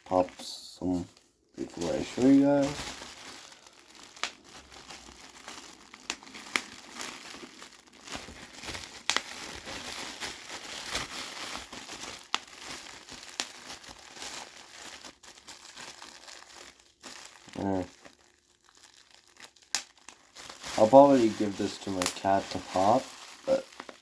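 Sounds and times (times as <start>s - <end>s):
bubble wrap crinkling: 0.0s - 24.0s
bubble wrap popping: 0.0s - 24.0s.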